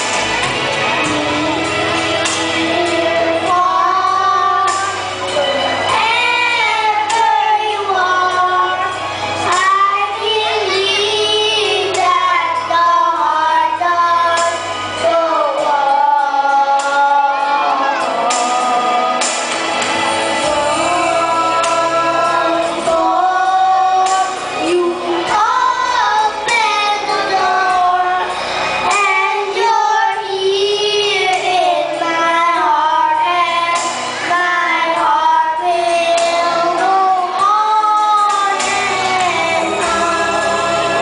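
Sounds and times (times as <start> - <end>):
backing music: 0.0 - 41.0
children singing duet: 0.0 - 41.0.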